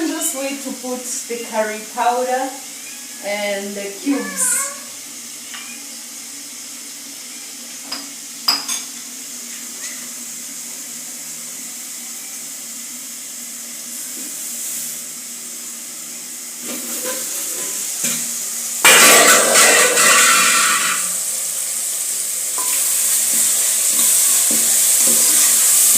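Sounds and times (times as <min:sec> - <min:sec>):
onions frying in oil: 0:00.0 - 0:25.9.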